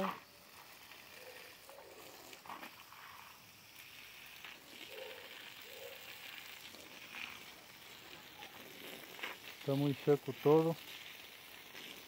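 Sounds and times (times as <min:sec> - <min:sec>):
hose water splashing on soil: 0:00.0 - 0:12.0.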